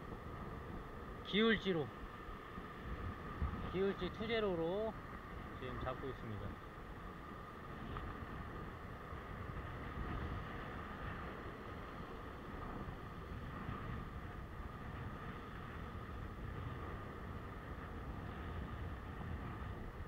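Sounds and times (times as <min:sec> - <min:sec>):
ocean swell breaking on rocks: 0:00.0 - 0:20.0
wind on microphone: 0:00.0 - 0:20.0.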